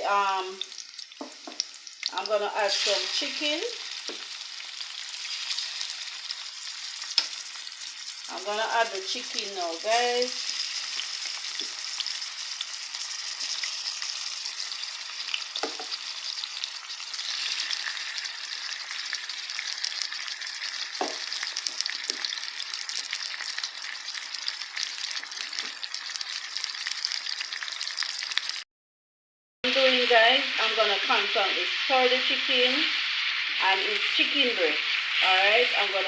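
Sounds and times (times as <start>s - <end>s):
chicken sizzling in hot oil: 0.0s - 28.6s, 29.7s - 36.0s.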